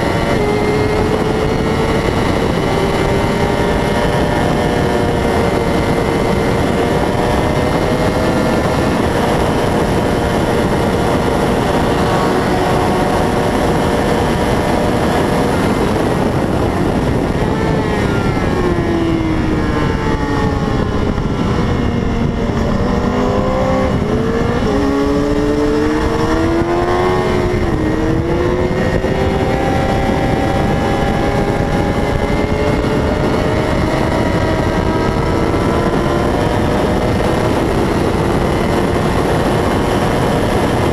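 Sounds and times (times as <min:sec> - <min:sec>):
racing motorcycle engine revving: 0:00.0 - 0:40.9
steady rushing noise: 0:00.0 - 0:40.9.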